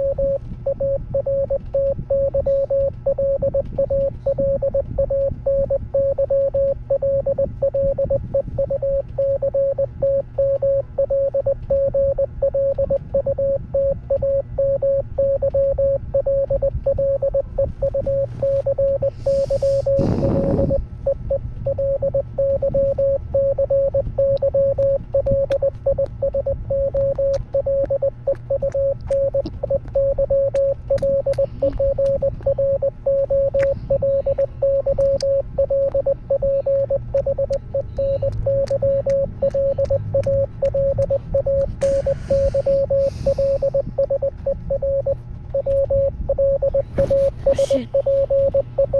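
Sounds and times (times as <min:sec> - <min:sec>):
morse code beeps: 0:00.0 - 0:48.9.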